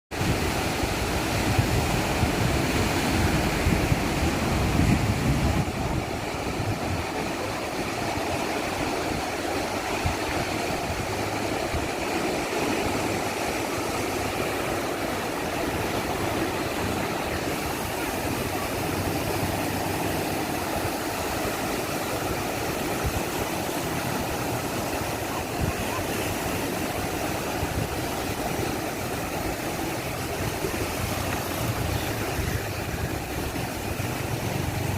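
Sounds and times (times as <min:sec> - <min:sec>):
surf breaking on beach: 0:00.2 - 0:34.9.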